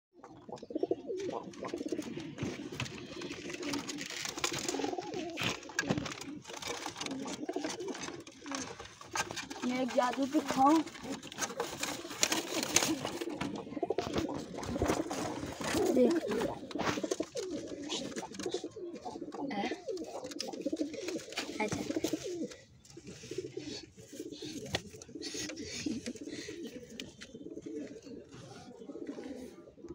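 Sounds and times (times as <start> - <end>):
pigeons cooing: 0.2 - 29.9
wings and feet rustling: 0.7 - 29.4.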